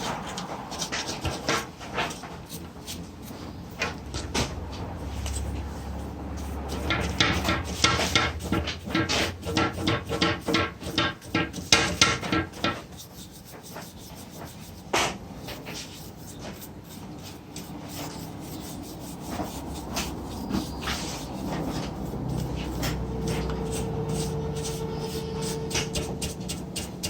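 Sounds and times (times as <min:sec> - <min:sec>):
rubbing strokes by hand: 0:00.0 - 0:27.0.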